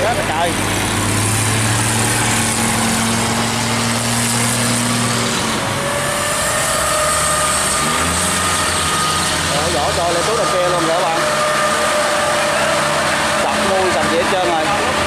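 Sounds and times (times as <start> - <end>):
boat engines running: 0.0 - 15.0
constant rushing noise: 0.0 - 15.0.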